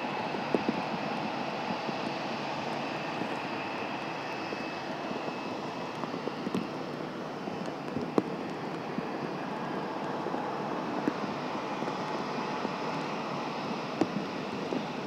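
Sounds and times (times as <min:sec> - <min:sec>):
distant jet engines rushing: 0:00.0 - 0:15.0.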